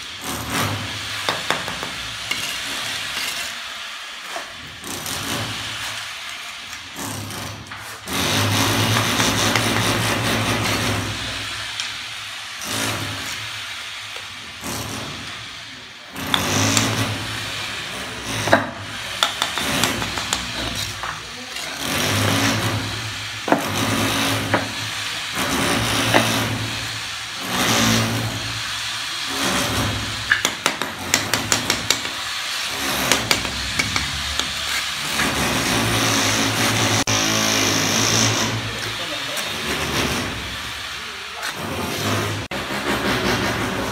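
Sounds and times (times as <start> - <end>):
trowel scraping mortar: 0.0 - 11.5, 12.6 - 13.5, 14.6 - 15.4, 16.1 - 28.6, 29.2 - 43.9.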